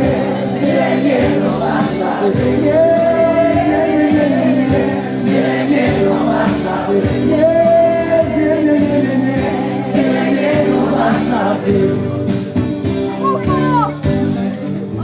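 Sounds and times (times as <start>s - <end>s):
crowd singing along: 0.0s - 12.8s
music: 0.0s - 15.0s.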